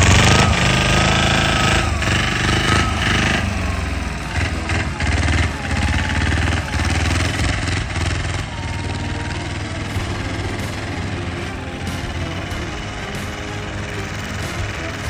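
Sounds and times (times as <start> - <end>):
diesel engine chugging: 0.0 - 15.0.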